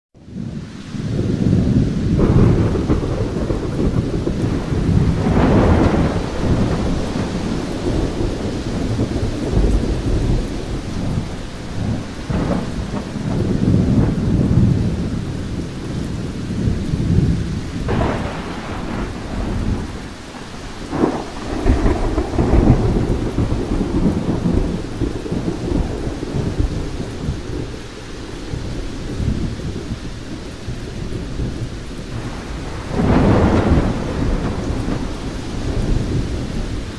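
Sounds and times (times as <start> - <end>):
steady rain: 0.2 - 36.9
thunder rumbling: 0.2 - 36.9
thunder claps: 0.3 - 36.9.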